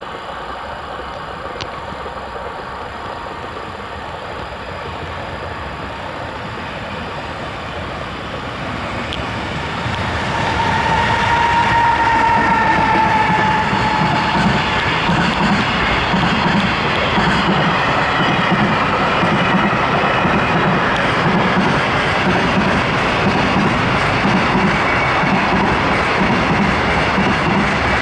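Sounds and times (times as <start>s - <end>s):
steady whine: 0.0s - 28.0s
train wheels rumbling: 0.0s - 28.0s.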